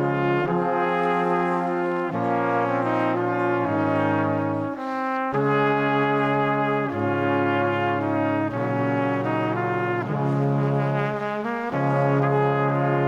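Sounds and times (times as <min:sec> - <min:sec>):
sustained brass chords: 0:00.0 - 0:13.0.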